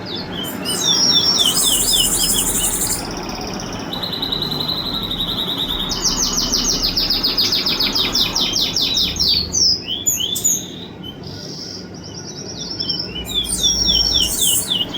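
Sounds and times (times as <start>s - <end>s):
songbird singing: 0.0s - 14.9s.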